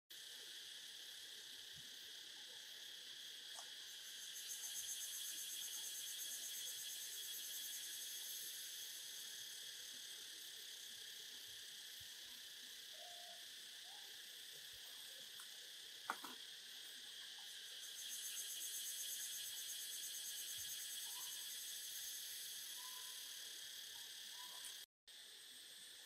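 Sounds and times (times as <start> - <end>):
pulsing insect trill: 0.1 - 26.0
high-pitched insect chorus: 0.2 - 26.0.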